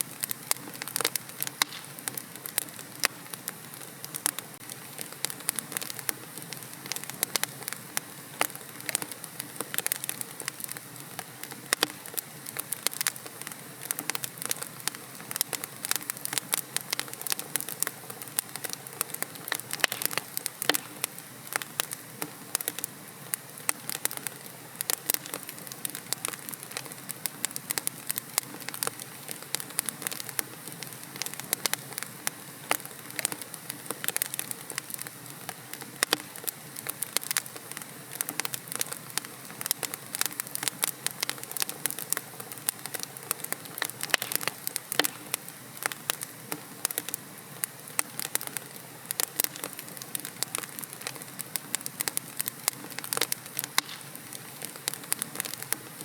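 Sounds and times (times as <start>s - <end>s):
burning logs crackling: 0.0s - 56.0s
fire hissing softly: 0.0s - 56.0s.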